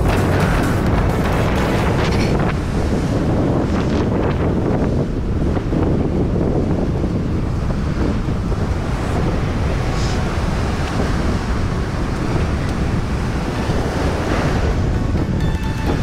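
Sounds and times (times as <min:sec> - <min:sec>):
ocean surf washing in: 0:00.0 - 0:16.0
wind buffeting microphone: 0:00.0 - 0:16.0.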